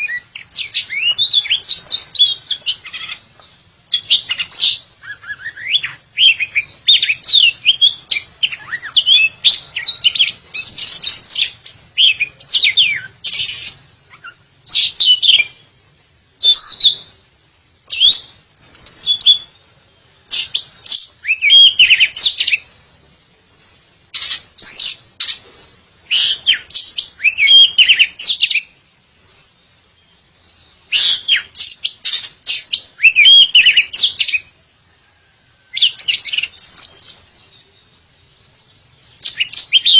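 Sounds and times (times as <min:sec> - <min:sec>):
songbird whistles and chirps: 0:00.0 - 0:39.9.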